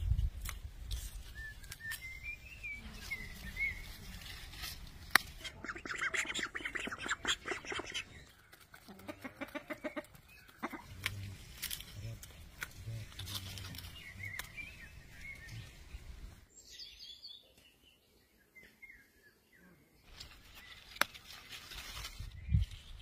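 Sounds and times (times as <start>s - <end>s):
birds chirping: 1.1s - 21.5s.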